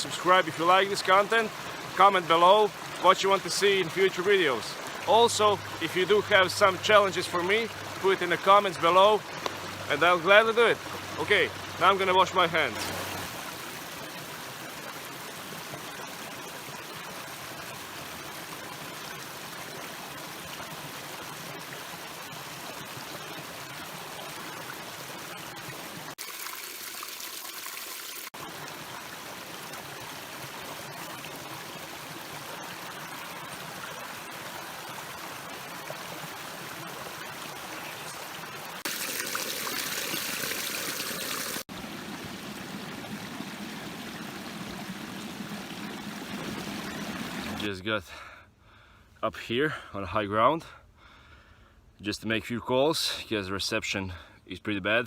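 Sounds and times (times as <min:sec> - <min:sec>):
stream water trickling: 0:00.0 - 0:47.7.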